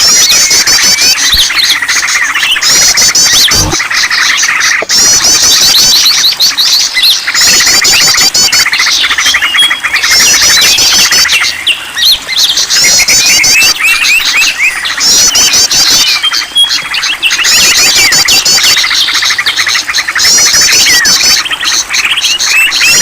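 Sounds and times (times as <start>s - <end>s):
small birds chirping and trilling: 0.0s - 23.0s.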